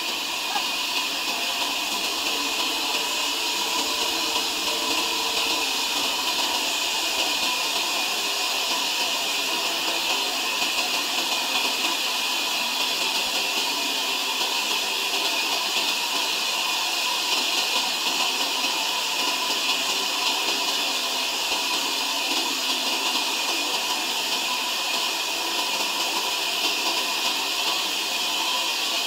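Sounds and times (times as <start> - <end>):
sawmill saw cutting log: 0.0 - 29.0.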